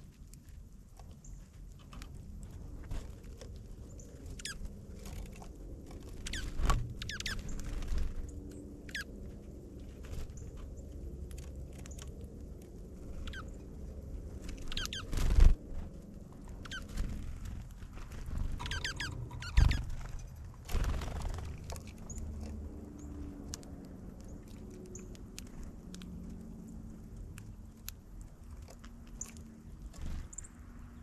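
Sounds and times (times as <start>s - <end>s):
low steady rumble: 0.0s - 31.0s
small birds chirping: 0.9s - 15.6s, 16.3s - 31.0s.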